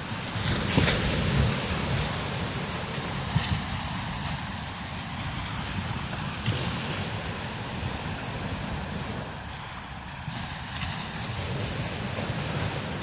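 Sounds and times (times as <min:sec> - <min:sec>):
strong wind blowing: 0:00.0 - 0:13.0
wind buffeting microphone: 0:00.0 - 0:13.0.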